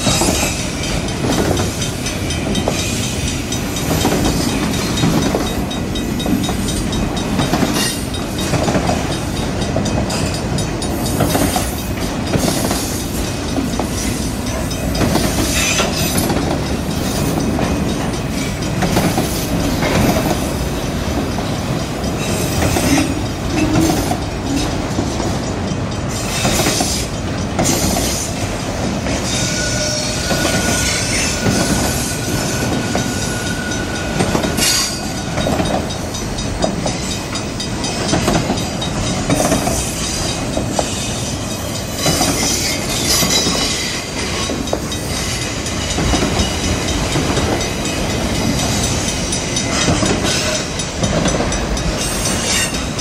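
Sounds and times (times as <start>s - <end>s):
steel wheels rumbling over rails: 0.0s - 53.0s.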